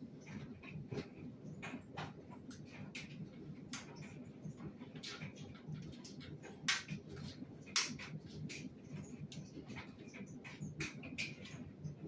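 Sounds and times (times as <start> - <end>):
dryer drum rumbling: 0.0 - 12.0.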